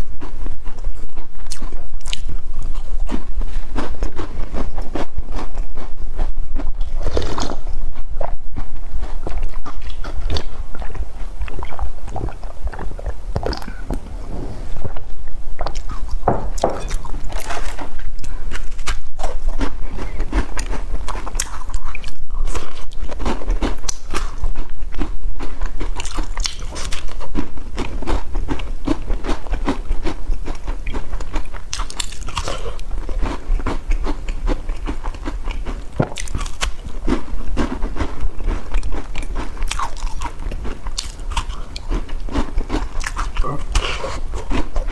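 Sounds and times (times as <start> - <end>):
crunchy chewing of biscuit: 0.0 - 14.2, 14.8 - 44.9.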